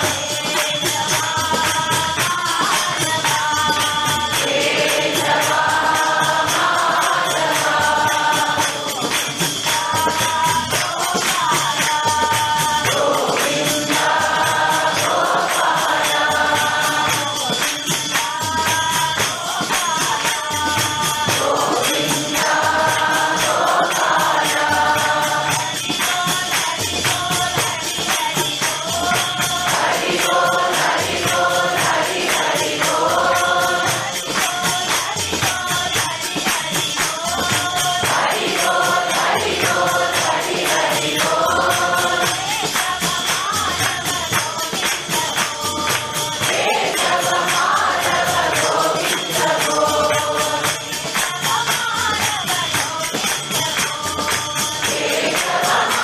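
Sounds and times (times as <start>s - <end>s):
group singing devotional song: 0.0s - 56.0s
hand percussion beat: 0.0s - 56.0s.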